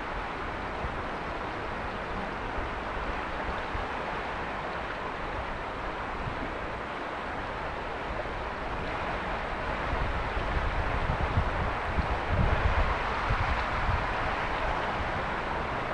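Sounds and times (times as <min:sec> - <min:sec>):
low water rumble: 0:00.0 - 0:15.9
river water rushing: 0:00.0 - 0:15.9.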